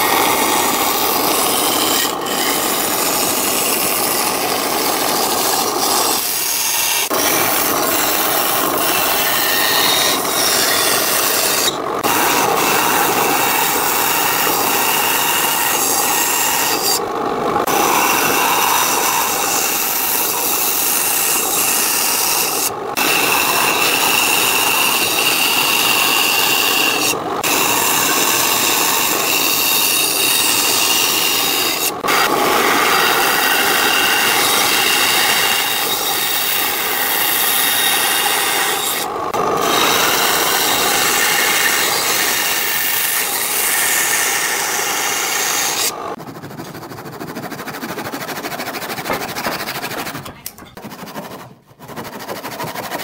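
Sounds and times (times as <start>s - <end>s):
bandsaw cutting wood: 0.0s - 53.0s
hand saw cutting wood: 0.0s - 53.0s.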